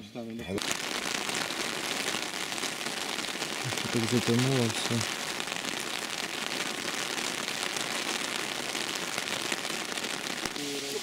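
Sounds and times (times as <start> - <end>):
steady rain falling: 0.6 - 11.0.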